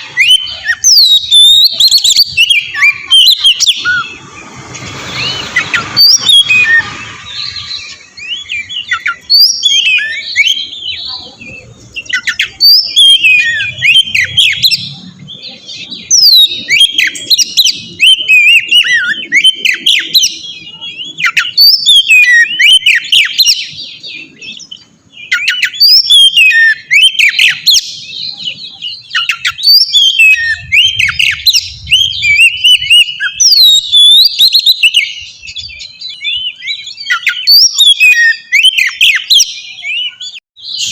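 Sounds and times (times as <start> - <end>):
bird singing varied whistles: 0.0 - 4.2, 5.1 - 11.1, 12.0 - 40.9.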